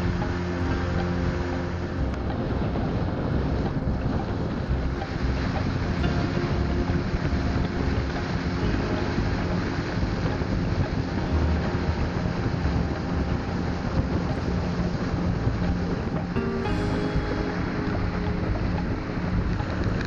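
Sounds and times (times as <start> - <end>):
boat engine running: 0.0 - 20.0
water streaming past hull: 0.0 - 20.0
wind buffeting microphone: 0.0 - 20.0.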